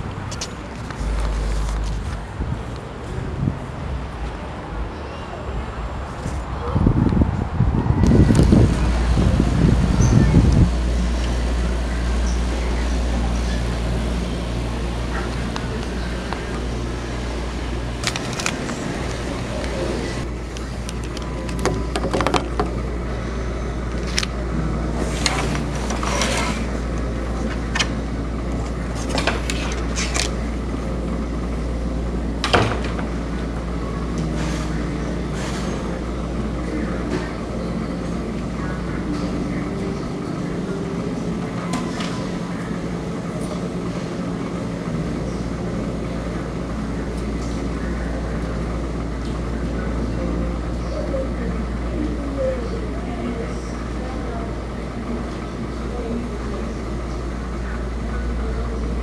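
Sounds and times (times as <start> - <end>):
washers and dryers humming: 0.0 - 59.0.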